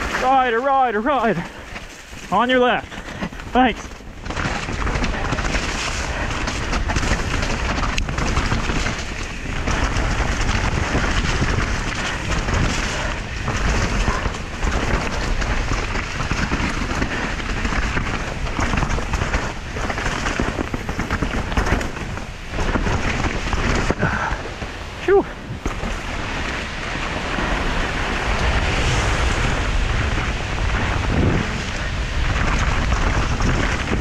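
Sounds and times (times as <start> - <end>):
bike knocking and rattling: 0.0 - 34.0
wind buffeting microphone: 0.0 - 34.0.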